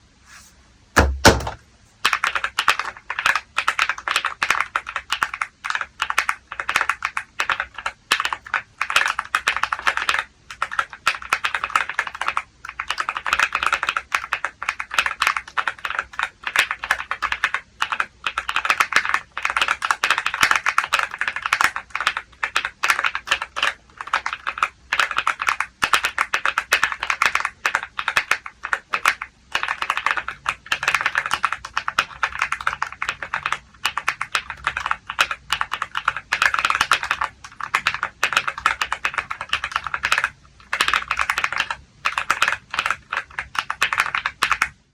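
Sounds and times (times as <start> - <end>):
mechanical keyboard typing: 1.0 - 44.8.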